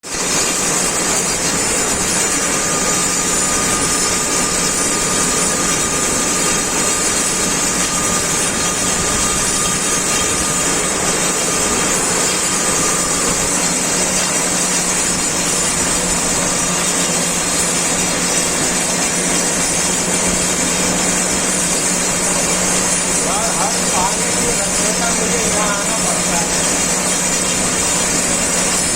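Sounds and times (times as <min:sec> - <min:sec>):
metal lathe humming: 0:00.2 - 0:28.9.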